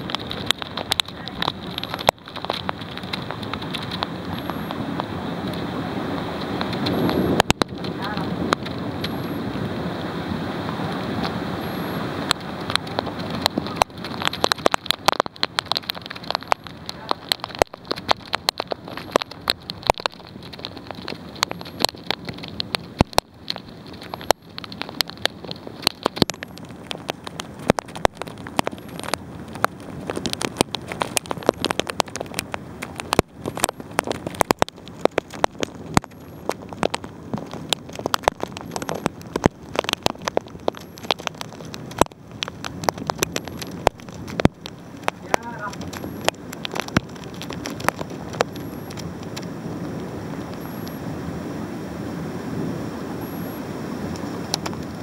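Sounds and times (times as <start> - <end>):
hailstones clicking on window: 0.0 - 10.1, 12.2 - 51.0, 53.2 - 55.0
heavy rain: 0.0 - 55.0.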